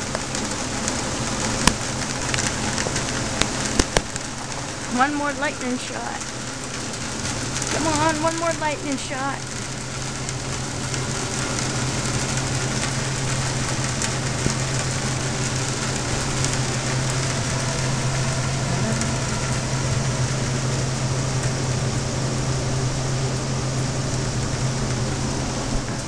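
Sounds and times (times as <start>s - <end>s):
low steady hum: 0.0s - 26.0s
steady rain falling: 0.0s - 26.0s.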